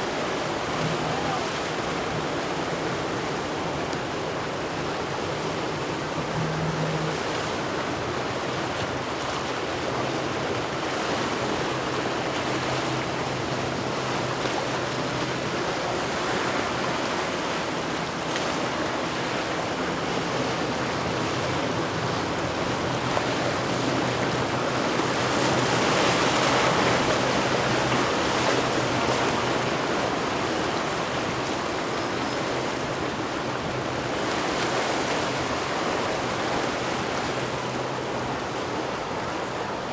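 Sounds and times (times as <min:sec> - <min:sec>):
faint boat engine hum: 0:00.0 - 0:39.9
water and wind rushing: 0:00.0 - 0:39.9.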